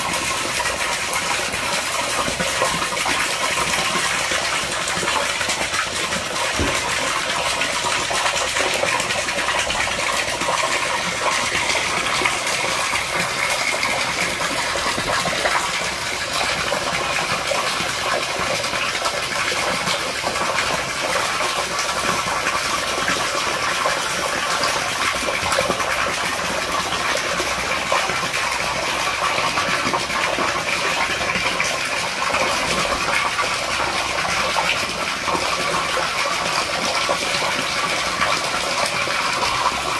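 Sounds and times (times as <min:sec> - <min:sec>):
water pouring into pool: 0:00.0 - 0:39.9.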